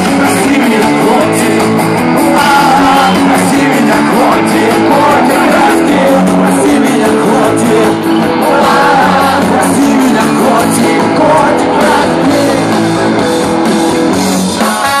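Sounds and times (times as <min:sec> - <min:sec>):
person singing: 0:00.0 - 0:13.2, 0:14.5 - 0:15.0
live rock band playing: 0:00.0 - 0:15.0.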